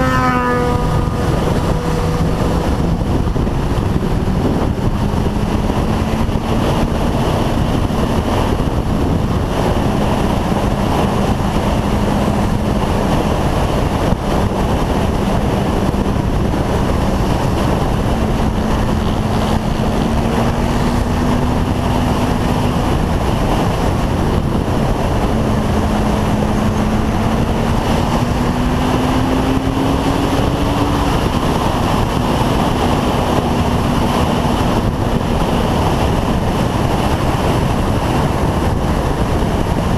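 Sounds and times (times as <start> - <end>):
motorcycle engine hum: 0.0 - 39.9
wind rush over microphone: 0.0 - 39.9.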